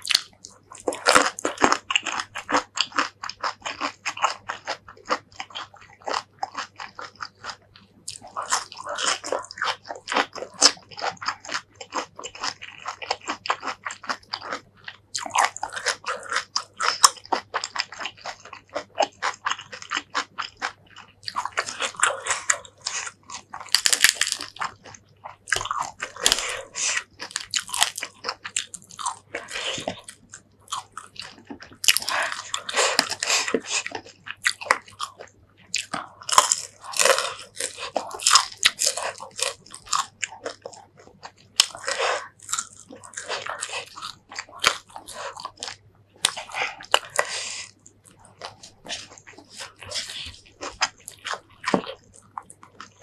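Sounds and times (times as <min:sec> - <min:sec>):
close-miked chewing and biting: 0:00.0 - 0:53.0.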